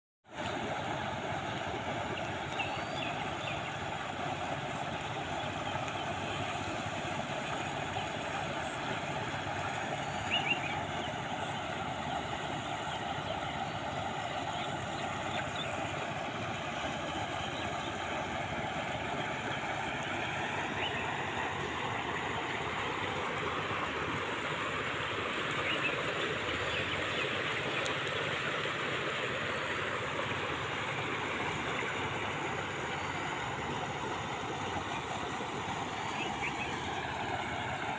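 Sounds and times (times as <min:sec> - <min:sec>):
water rushing and foaming: 0:00.2 - 0:37.9.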